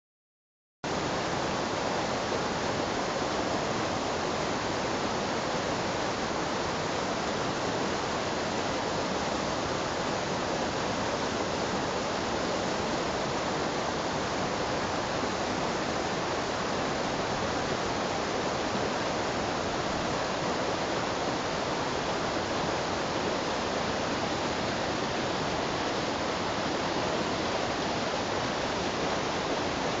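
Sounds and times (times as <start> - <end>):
stream rushing over boulders: 0.9 - 30.0.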